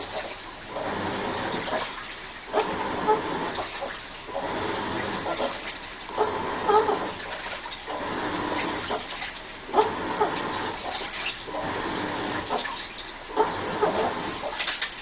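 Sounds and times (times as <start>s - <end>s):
washing machine running: 0.0s - 15.0s
water sloshing: 0.0s - 15.0s.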